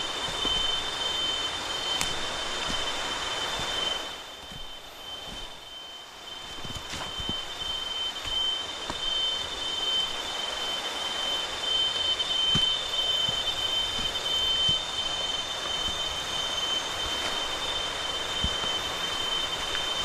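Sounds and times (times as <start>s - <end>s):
cicadas droning: 0.0s - 20.0s
constant rushing hiss: 0.0s - 20.0s.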